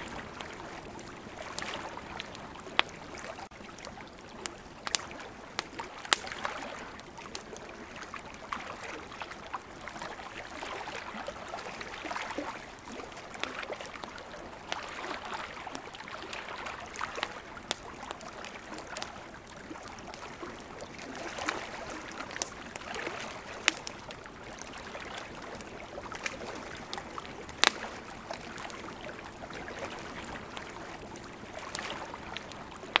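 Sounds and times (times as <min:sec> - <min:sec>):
campfire crackling and popping: 0:00.0 - 0:08.8, 0:10.4 - 0:33.0.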